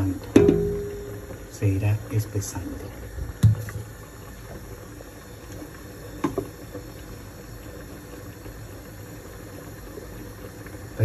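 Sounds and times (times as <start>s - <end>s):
gas burner rumble: 0.0s - 11.0s.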